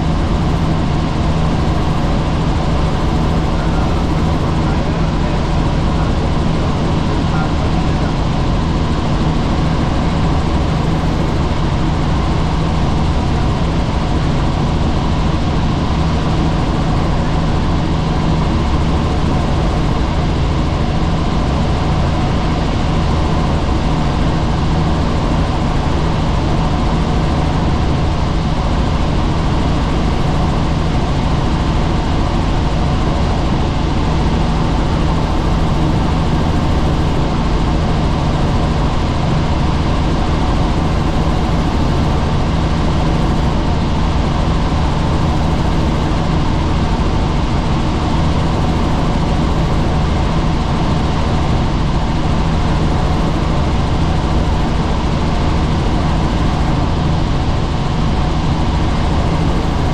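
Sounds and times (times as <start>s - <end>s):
helicopter rotor drone: 0.0s - 59.9s.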